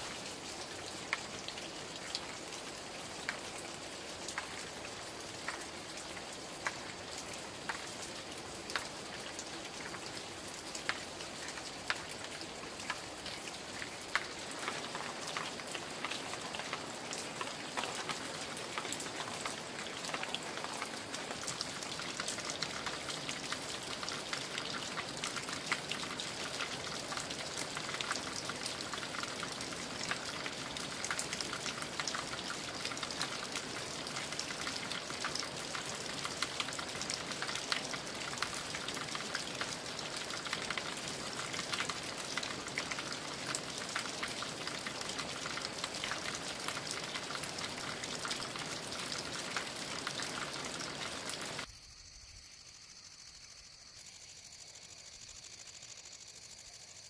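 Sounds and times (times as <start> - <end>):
rain in forest undergrowth: 0.0 - 57.0.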